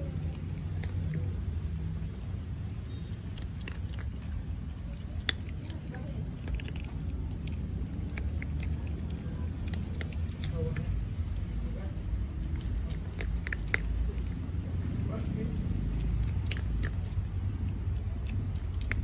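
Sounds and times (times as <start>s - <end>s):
otter crunching kibble: 0.0s - 19.0s
steady low rumble: 0.0s - 19.0s.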